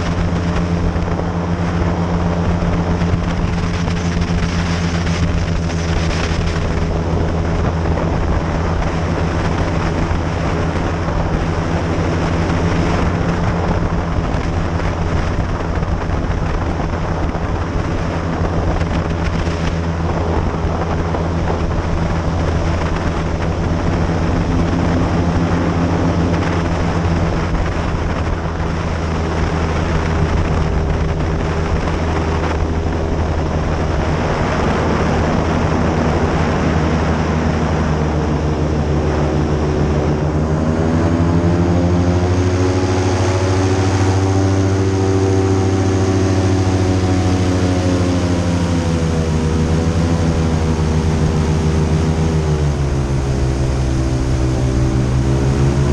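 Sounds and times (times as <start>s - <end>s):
airboat engine and propeller drone: 0.0s - 55.9s.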